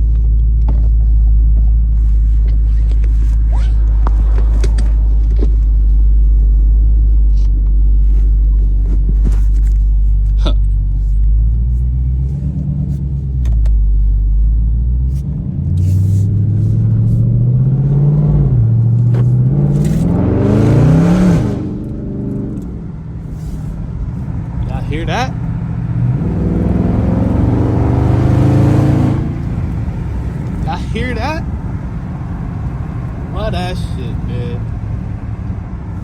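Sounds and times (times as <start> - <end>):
car exhaust rumble and revving: 0.0 - 36.0.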